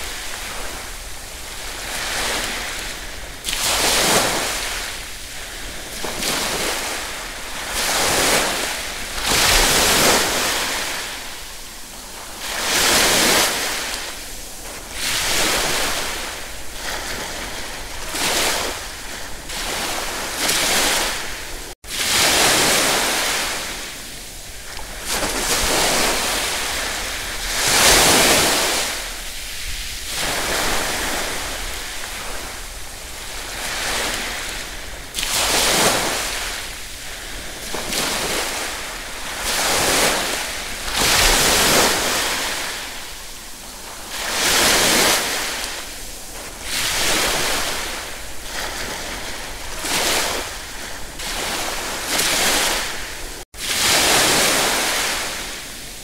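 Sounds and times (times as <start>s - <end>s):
ocean waves breaking: 0.0s - 56.0s.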